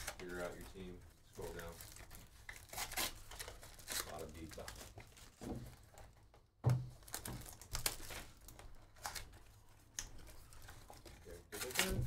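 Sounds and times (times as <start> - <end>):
foil wrappers crinkling: 0.0 - 6.2, 7.0 - 12.0.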